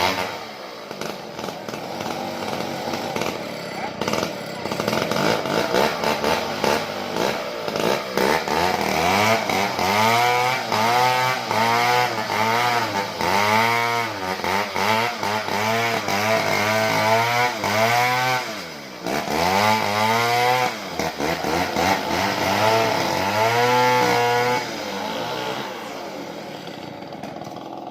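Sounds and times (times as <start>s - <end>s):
chainsaw cutting wood: 0.0s - 27.9s.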